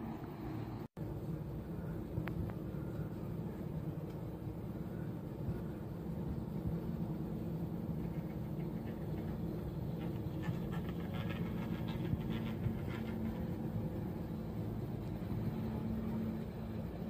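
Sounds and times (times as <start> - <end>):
cable car rope humming: 0.0 - 17.0.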